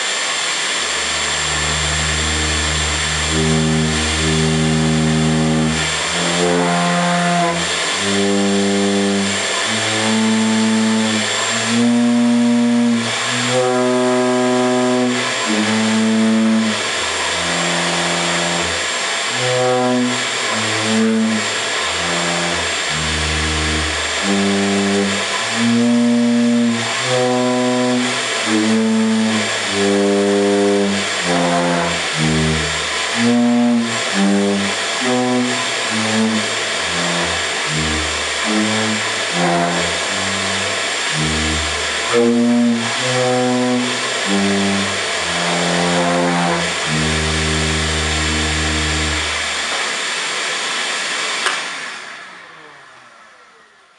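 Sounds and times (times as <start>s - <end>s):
shop vac motor hiss: 0.0s - 53.9s.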